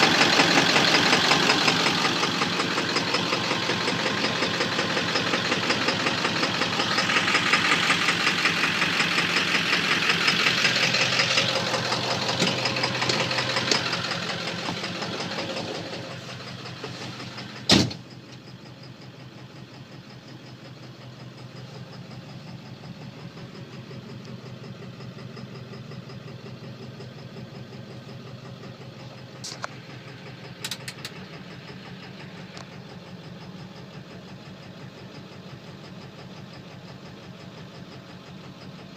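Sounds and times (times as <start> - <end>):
diesel engine idling with knock: 0.0 - 38.9.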